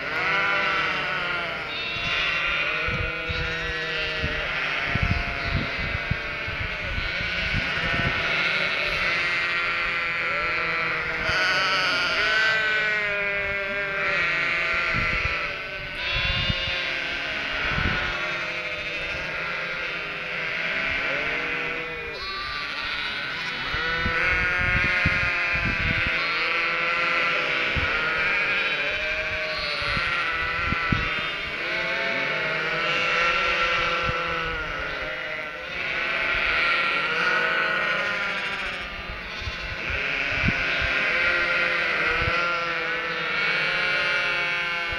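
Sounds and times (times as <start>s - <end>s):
sheep and lambs bleating: 0.0s - 44.9s.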